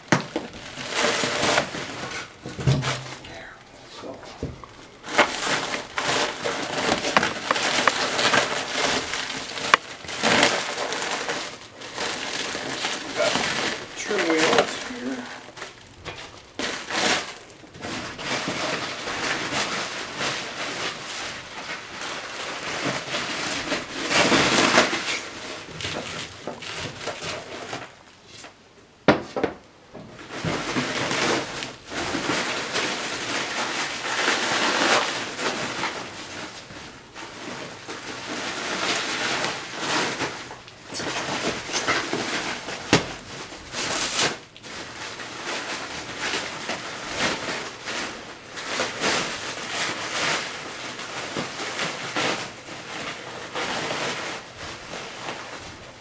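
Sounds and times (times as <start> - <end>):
packaging rustling and crinkling: 0.0 - 28.6, 30.0 - 56.0.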